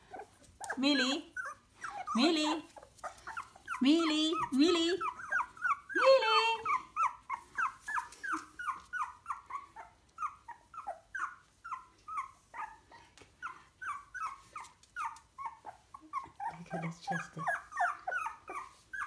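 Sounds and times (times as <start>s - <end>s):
puppy crying: 0.0s - 19.0s.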